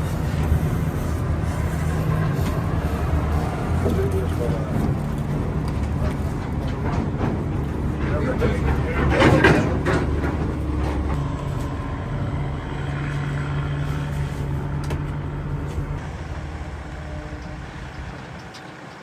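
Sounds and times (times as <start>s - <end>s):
diesel machinery engine running: 0.0s - 19.0s.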